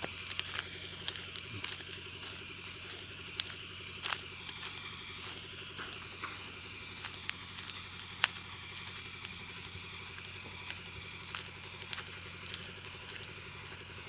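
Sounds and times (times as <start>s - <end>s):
saw mill motor humming: 0.0s - 14.0s.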